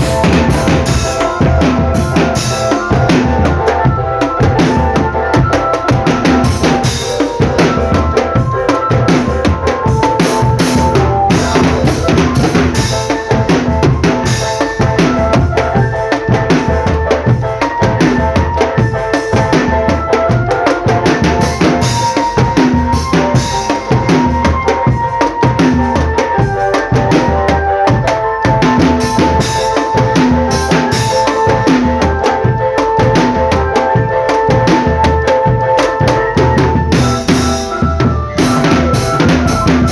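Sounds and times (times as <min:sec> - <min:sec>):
band melody: 0:00.0 - 0:39.9
snare and bass drums: 0:00.0 - 0:39.9.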